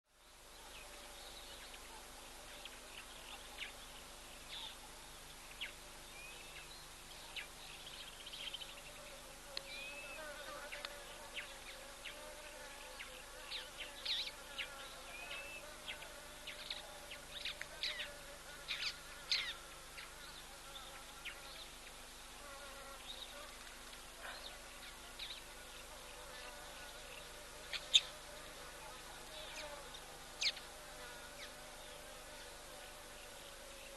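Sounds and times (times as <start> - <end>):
insects buzzing: 0.2 - 33.9.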